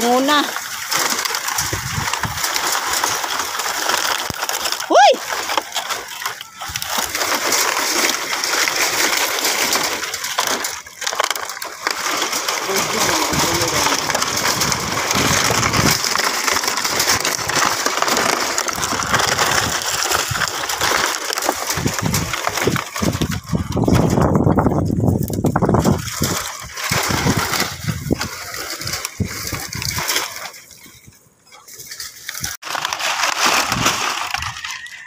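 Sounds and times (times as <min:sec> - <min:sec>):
dry debris crunching: 0:00.0 - 0:35.0
plastic sheeting crinkling: 0:00.0 - 0:35.0.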